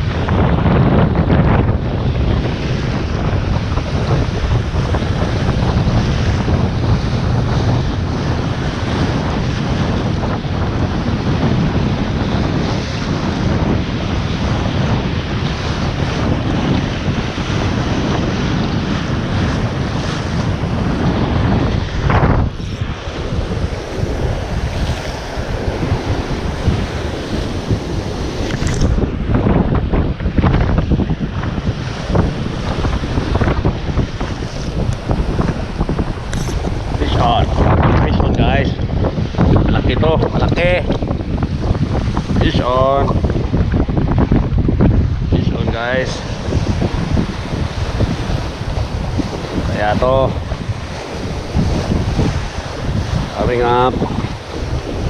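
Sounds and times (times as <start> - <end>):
strong wind buffeting microphone: 0.0 - 55.0
waves breaking on shore: 0.0 - 55.0.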